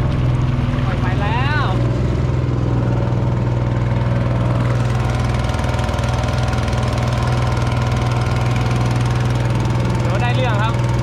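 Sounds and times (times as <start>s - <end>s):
small boat engine running: 0.0s - 11.0s.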